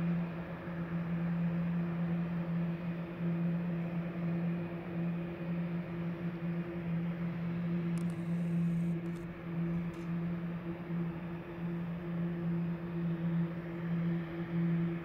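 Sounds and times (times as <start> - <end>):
jet engines idling hum and hiss: 0.0 - 15.0.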